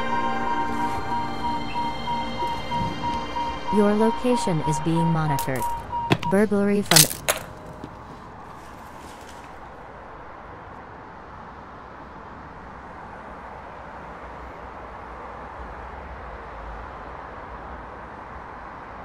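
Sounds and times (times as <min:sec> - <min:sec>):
low traffic rumble: 0:00.0 - 0:19.0
street noise: 0:00.0 - 0:19.0.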